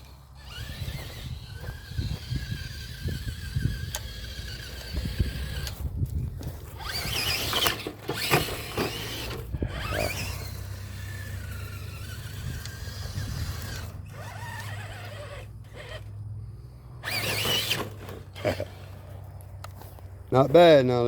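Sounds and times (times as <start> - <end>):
rc truck motor whine: 0.0 - 19.8.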